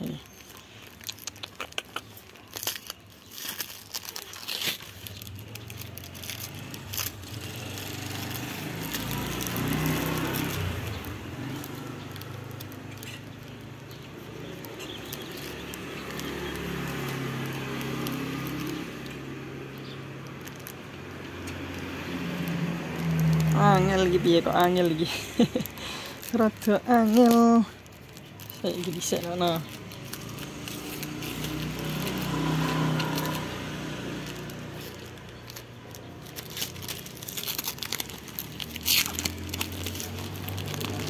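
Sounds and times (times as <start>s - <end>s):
packing tape crackling: 0.0s - 41.0s
vehicle engine running: 4.9s - 41.0s.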